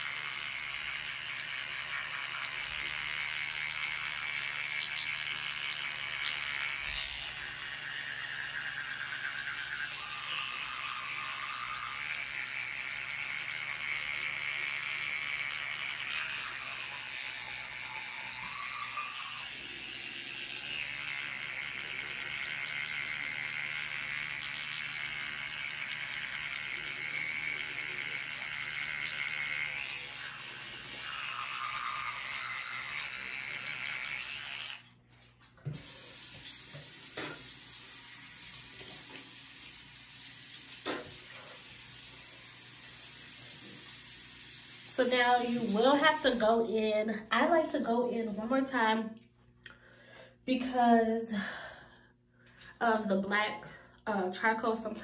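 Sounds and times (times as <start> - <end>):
electric toothbrush motor whine: 0.0 - 47.9.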